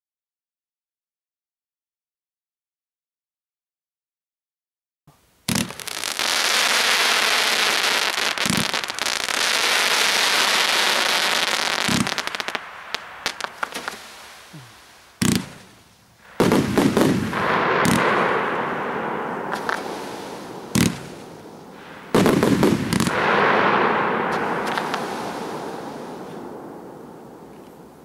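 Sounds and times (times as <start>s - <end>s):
dense firework crackling: 5.4s - 28.0s
firework shots thumping: 5.5s - 28.0s
sharp firework bangs: 5.5s - 28.0s.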